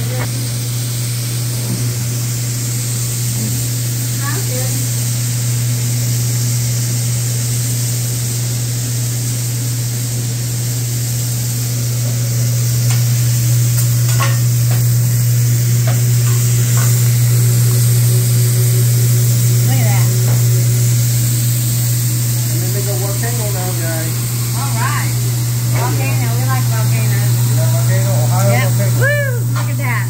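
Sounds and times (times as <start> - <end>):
vegetables sizzling on a griddle: 0.0 - 30.0.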